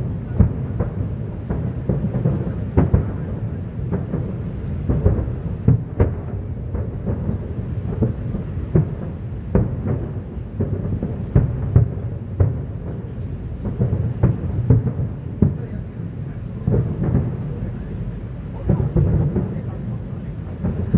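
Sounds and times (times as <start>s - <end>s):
firework shells bursting: 0.0s - 20.9s
low rumble of booms: 0.0s - 20.9s.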